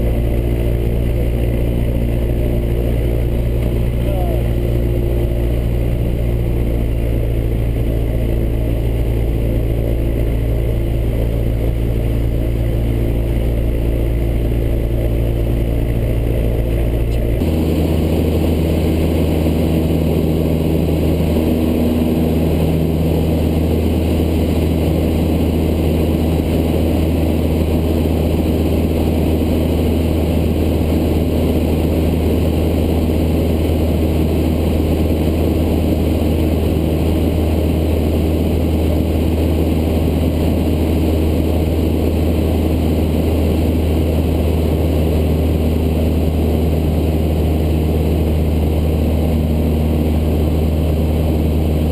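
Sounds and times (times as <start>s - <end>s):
light aircraft engine and propeller: 0.0s - 51.9s.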